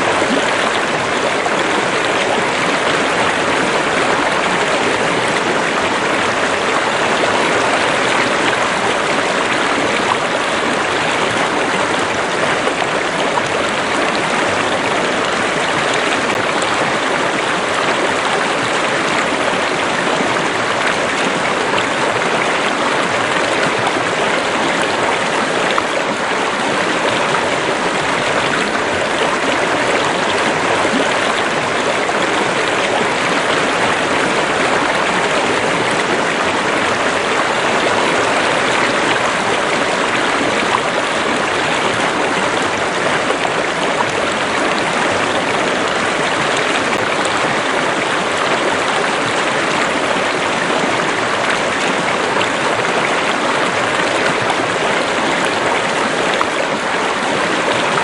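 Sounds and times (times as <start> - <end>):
water flowing over stones: 0.0 - 58.0.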